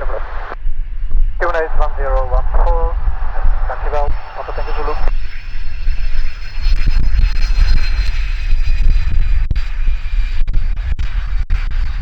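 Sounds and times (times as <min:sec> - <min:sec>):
jet turbine whine and rumble: 0:00.0 - 0:11.0.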